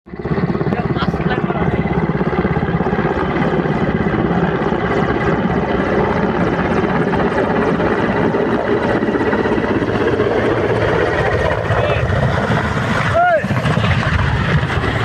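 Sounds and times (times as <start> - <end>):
helicopter rotor chopping: 0.1 - 15.0
turbine whine: 0.1 - 15.0.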